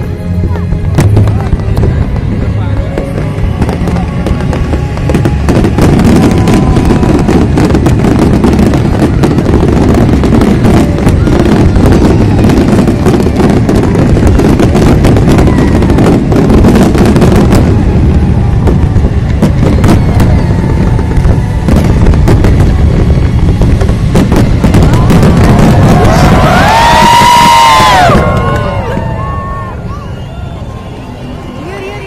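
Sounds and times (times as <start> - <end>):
booming rumble of fireworks: 0.0 - 32.0
fireworks cracking and banging: 0.0 - 32.0.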